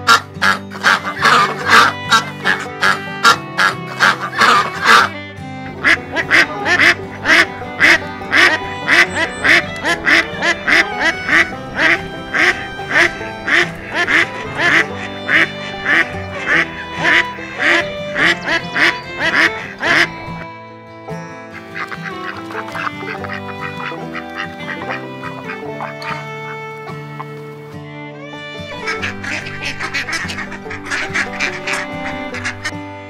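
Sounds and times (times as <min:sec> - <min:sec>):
ducks quacking: 0:00.0 - 0:20.5, 0:21.5 - 0:32.8.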